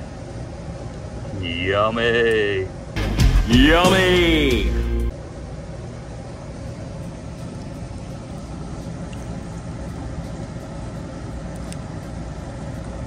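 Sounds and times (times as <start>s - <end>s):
faint constant hum: 0.0s - 13.0s
mechanical drone with low rumble: 0.0s - 13.0s.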